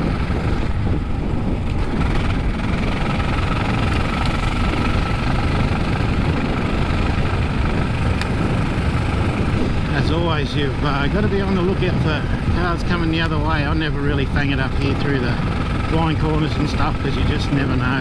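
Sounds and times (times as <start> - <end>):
motorcycle engine running under load: 0.0 - 18.0.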